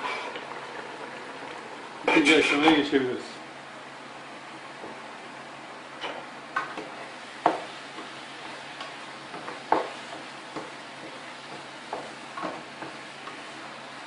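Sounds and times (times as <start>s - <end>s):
food sizzling in pans: 0.0s - 14.0s.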